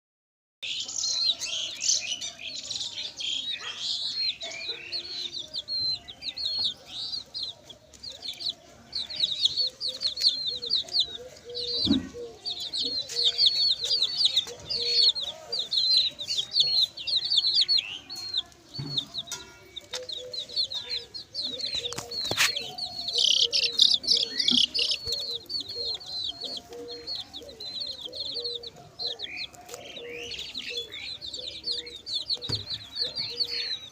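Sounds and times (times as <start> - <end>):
chicks peeping: 0.6 - 33.9
hen clucking: 3.4 - 33.9.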